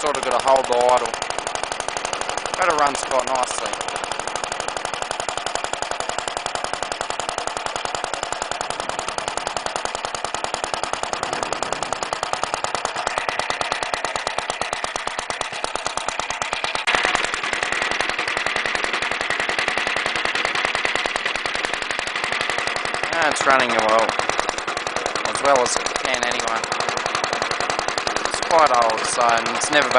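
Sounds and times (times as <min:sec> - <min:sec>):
engine knock: 0:00.0 - 0:29.9
two-stroke engine puttering: 0:00.0 - 0:29.9.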